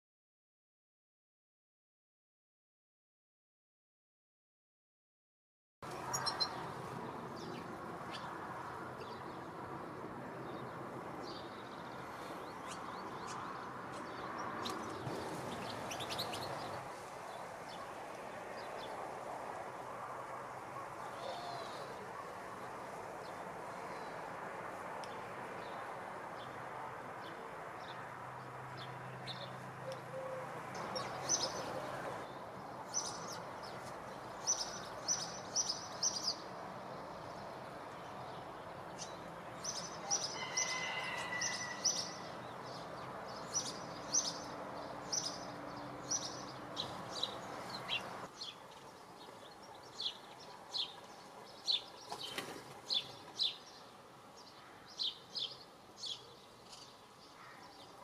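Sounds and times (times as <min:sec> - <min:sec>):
outdoor background noise: 0:05.8 - 0:58.0
songbirds chirping: 0:05.9 - 0:58.0.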